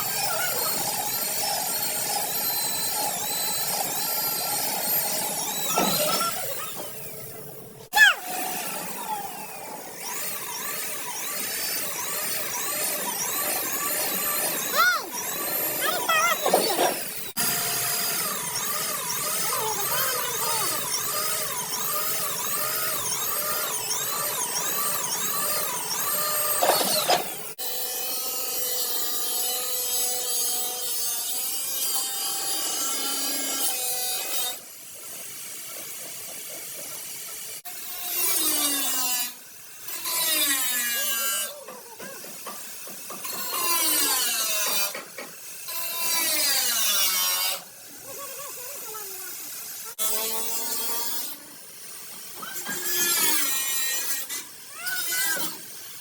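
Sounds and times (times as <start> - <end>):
electric power tool running: 0.0 - 56.0.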